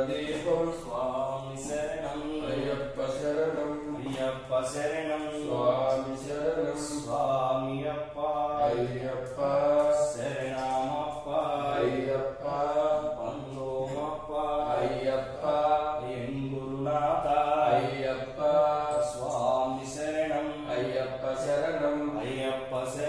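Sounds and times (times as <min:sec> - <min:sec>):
man chanting mantras: 0:00.0 - 0:23.0.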